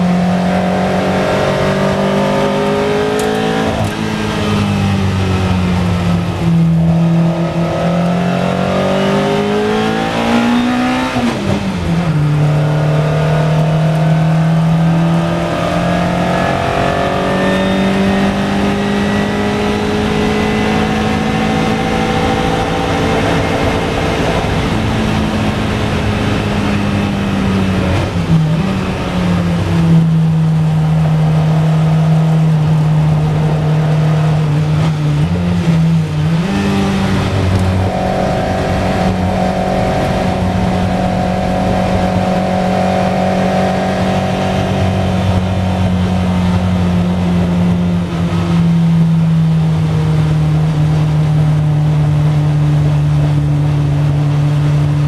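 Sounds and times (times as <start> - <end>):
racing car engine under load: 0.0 - 55.0.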